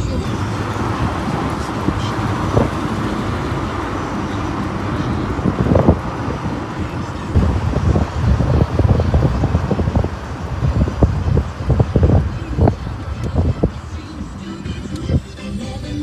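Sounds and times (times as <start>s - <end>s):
car road and engine rumble: 0.0s - 16.0s
knocks and bumps: 0.2s - 14.5s.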